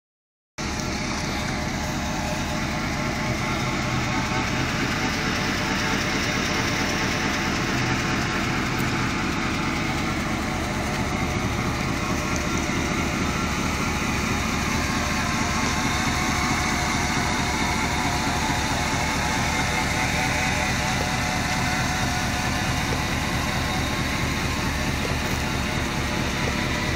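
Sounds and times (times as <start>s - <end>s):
pickup truck engine idling: 0.6s - 26.9s.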